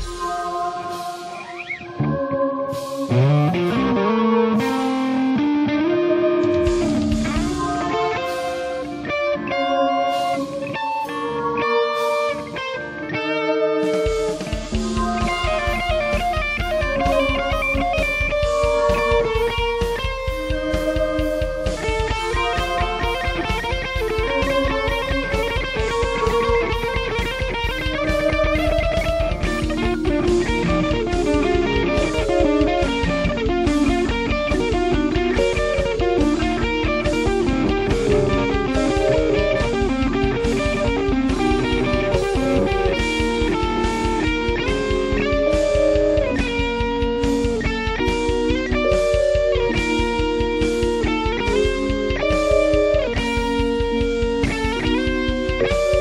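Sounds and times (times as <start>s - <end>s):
steady drum beat: 0.0s - 1.9s, 2.7s - 5.5s, 6.4s - 9.2s, 13.9s - 56.0s
electric guitar melody: 0.0s - 56.0s.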